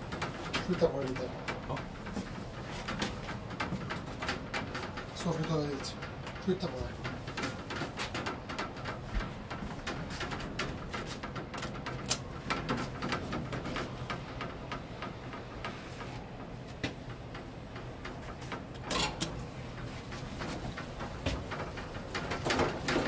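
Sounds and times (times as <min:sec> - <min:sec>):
elevator mechanical hum: 0:00.0 - 0:23.0
irregular clicks and ticks: 0:00.0 - 0:23.0.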